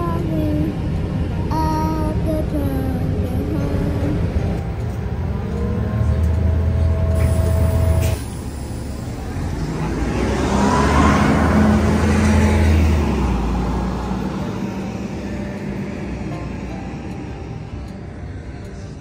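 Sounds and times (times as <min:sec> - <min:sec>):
bus engine drone inside cabin: 0:00.0 - 0:19.0
bus pulling away: 0:00.0 - 0:19.0.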